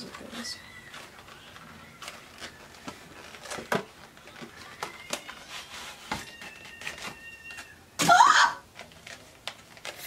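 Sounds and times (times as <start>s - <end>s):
cardboard packaging clicks and rustles: 0.0s - 7.8s, 8.6s - 10.0s.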